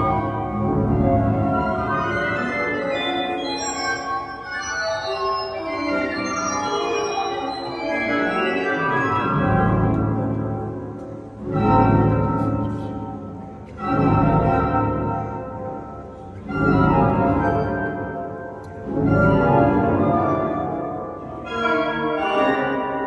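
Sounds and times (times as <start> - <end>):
pipe organ playing chords: 0.0 - 23.0.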